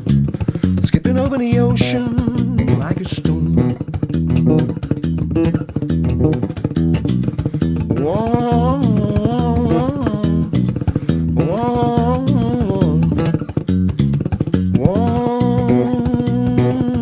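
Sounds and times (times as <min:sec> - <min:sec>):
electric bass played solo: 0:00.0 - 0:17.0.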